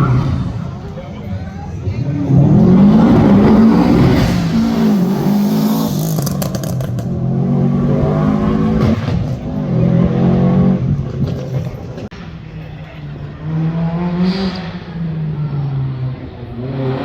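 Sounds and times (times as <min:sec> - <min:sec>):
rally car engine revving: 0:00.0 - 0:12.2, 0:13.1 - 0:17.0.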